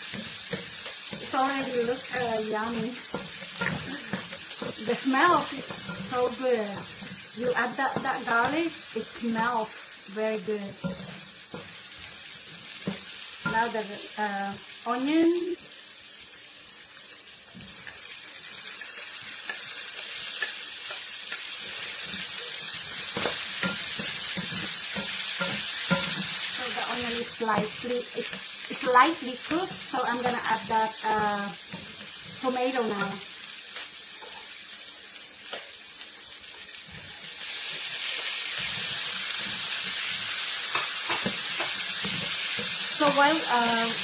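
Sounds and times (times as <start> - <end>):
onion sizzling in pan: 0.0 - 44.0.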